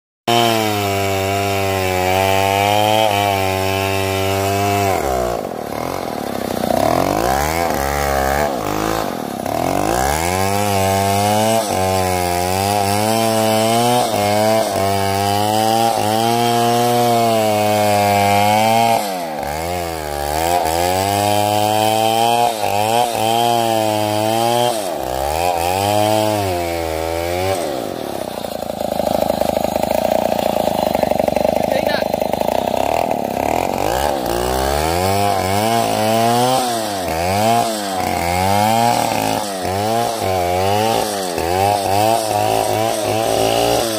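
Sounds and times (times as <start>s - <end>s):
chainsaw cutting wood: 0.3s - 43.9s.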